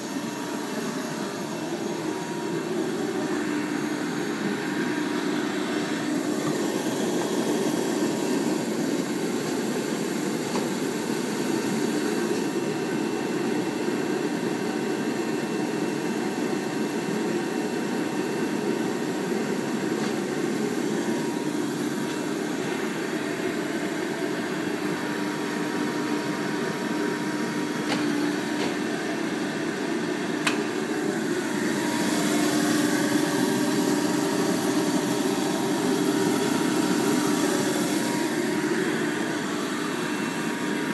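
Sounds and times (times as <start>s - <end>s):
hydraulic pump humming: 0.0s - 12.0s, 18.7s - 40.9s.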